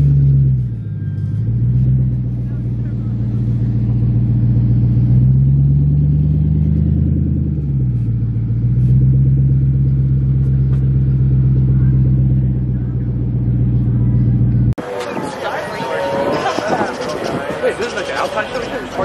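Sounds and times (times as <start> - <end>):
car engine and exhaust droning: 0.0 - 19.0.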